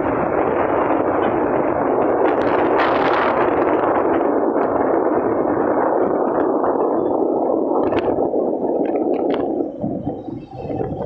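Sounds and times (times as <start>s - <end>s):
motorcycle running at speed: 0.0s - 11.0s
rushing wind: 0.0s - 11.0s.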